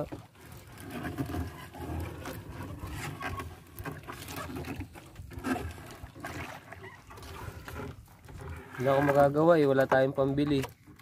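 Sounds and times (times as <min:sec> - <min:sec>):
wet fishing net rustling: 0:00.0 - 0:11.0.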